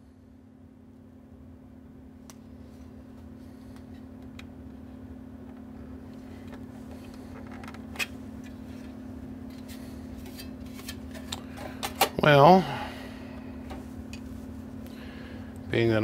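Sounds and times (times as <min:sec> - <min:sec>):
steady low hum with rumble: 0:00.0 - 0:16.0.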